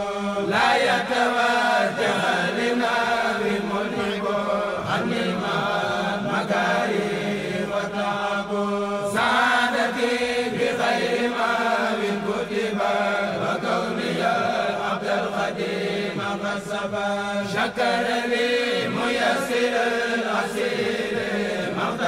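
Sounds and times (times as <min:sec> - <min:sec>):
voices chanting a melody: 0:00.0 - 0:22.0.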